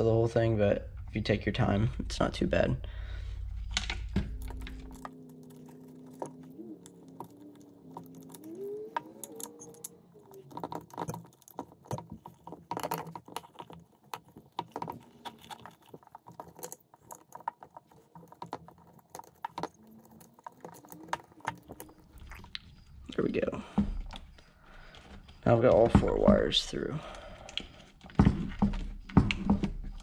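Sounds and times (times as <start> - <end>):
wires and plastic connectors rustling: 3.6 - 30.0.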